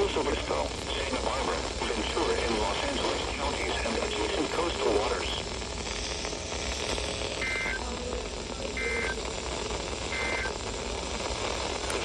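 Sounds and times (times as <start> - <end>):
radio static: 0.0 - 12.0.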